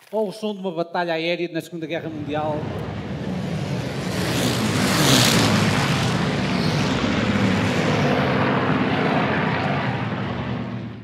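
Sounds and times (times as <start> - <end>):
propeller aircraft engines droning: 2.0 - 11.0.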